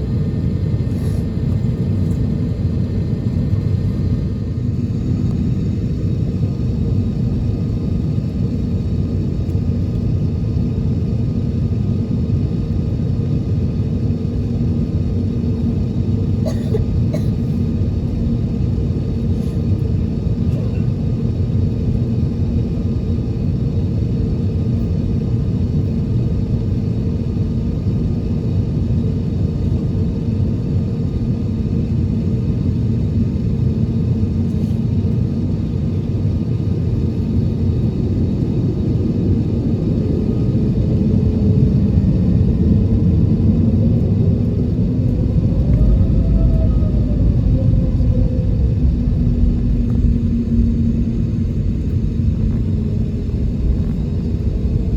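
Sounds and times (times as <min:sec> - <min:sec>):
aircraft cabin engine rumble: 0:00.0 - 0:54.9.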